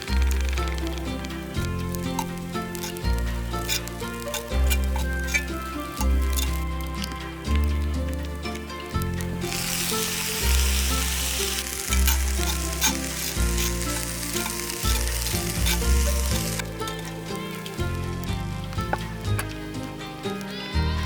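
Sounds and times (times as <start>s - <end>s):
background music: 0.0s - 21.0s
rice sizzling in a skillet: 0.0s - 21.0s.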